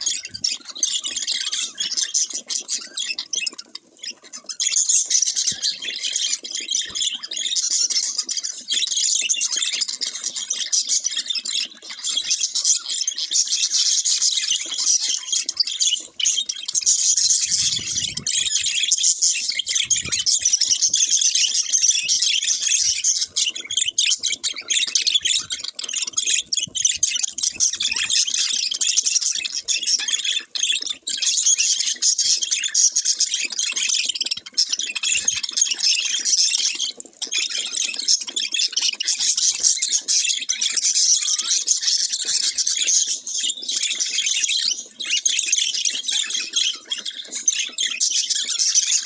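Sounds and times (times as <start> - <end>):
budgerigars chattering: 0.0 - 49.0.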